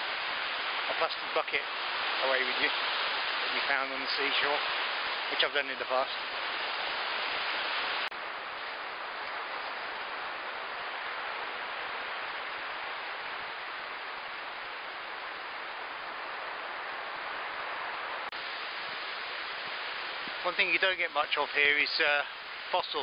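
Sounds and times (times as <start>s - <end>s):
small waves washing on sand: 0.0s - 23.0s.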